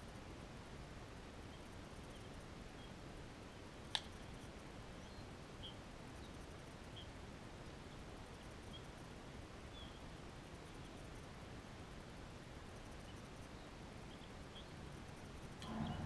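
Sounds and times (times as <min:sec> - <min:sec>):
faint background noise: 0:00.0 - 0:16.0.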